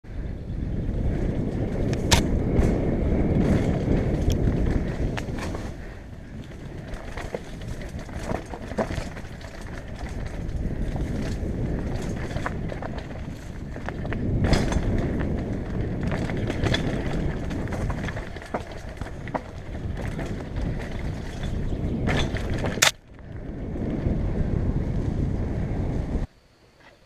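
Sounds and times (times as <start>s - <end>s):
bike tyres rumbling over dirt: 0.1s - 26.3s
bike rattling and clicking: 0.1s - 27.0s.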